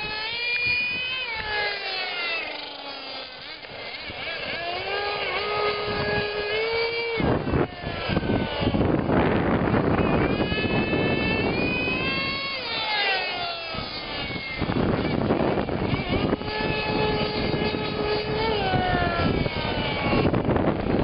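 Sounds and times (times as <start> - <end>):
small toy motor whining: 0.0 - 21.0.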